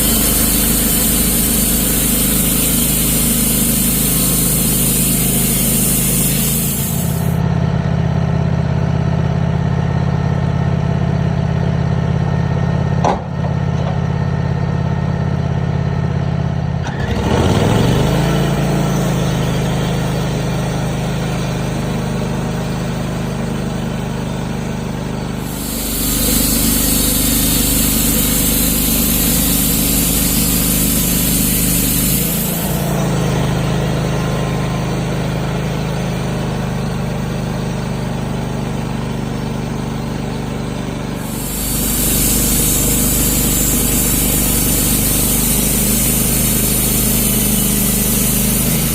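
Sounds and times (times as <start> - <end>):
band sawmill running: 0.0 - 7.4, 16.9 - 48.9.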